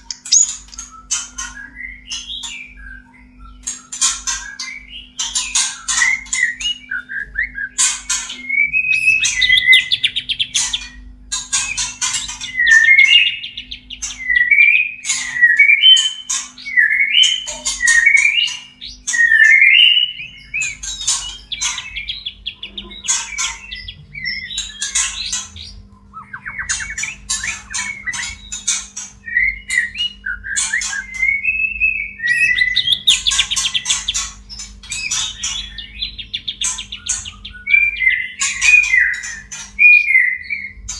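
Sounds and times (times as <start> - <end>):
harsh rasping bird chatter: 0.0 - 2.6, 7.8 - 31.4, 32.2 - 40.9
birds whistling and warbling: 0.0 - 40.9.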